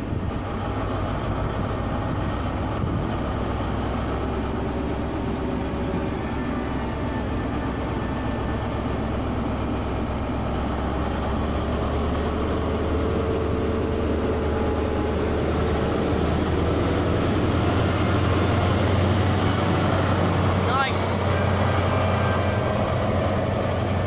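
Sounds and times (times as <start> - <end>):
train diesel engine drone: 0.0 - 24.0.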